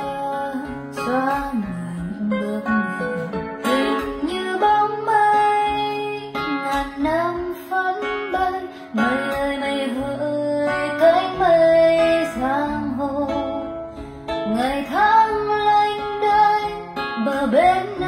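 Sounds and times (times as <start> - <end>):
acoustic guitar: 0.0 - 18.0
woman singing slow song: 0.0 - 18.0.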